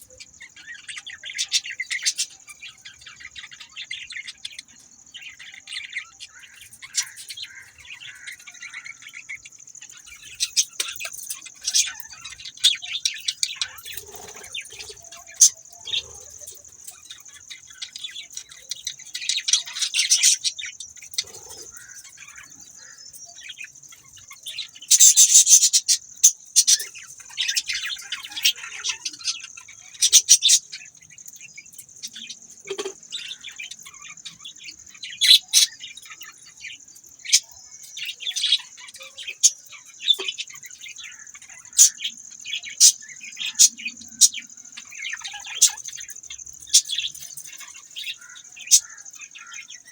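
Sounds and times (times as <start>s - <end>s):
budgerigars chirping and chattering: 0.0s - 49.9s.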